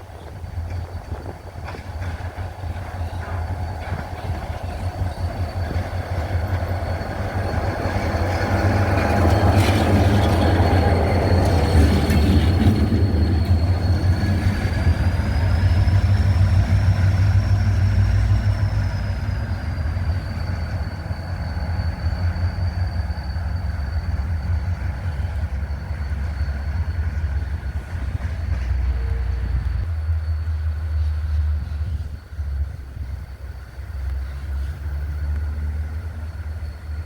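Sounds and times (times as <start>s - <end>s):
locomotive engine rumble: 0.0s - 37.0s.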